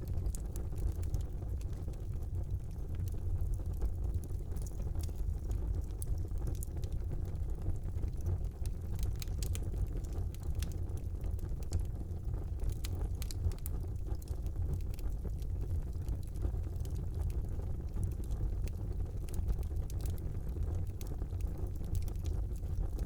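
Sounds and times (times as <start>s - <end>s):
fire crackling and popping: 0.0s - 23.0s
fire rumbling: 0.0s - 23.0s.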